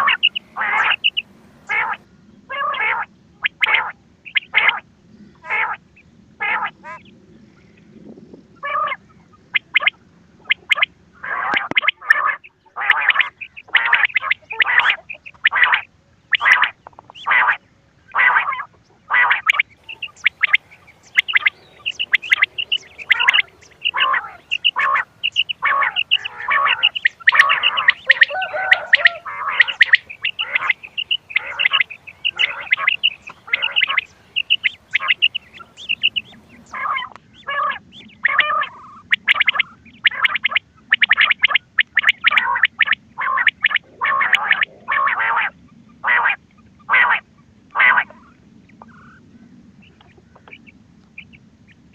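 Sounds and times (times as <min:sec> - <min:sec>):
quail calling: 0:00.0 - 0:05.8, 0:06.4 - 0:07.1, 0:08.6 - 0:51.8.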